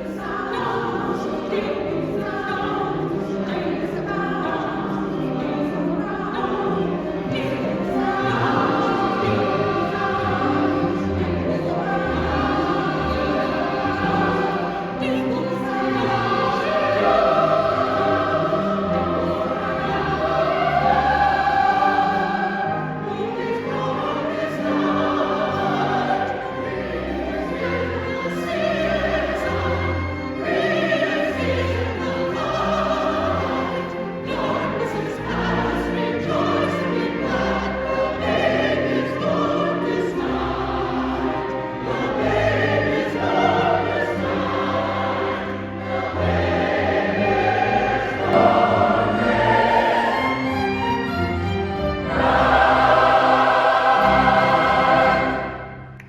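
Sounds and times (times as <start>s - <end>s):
choir singing: 0.0s - 56.0s
string ensemble: 0.0s - 56.0s.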